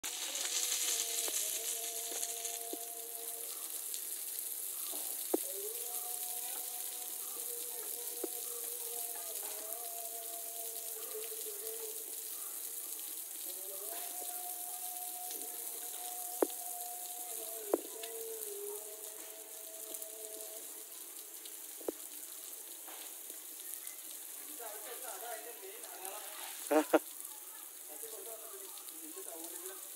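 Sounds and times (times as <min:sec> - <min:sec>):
elephant spraying water: 0:00.0 - 0:29.9.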